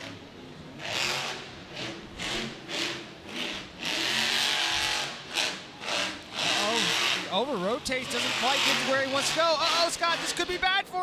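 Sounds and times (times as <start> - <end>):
monster truck engine revving: 0.0 - 10.6.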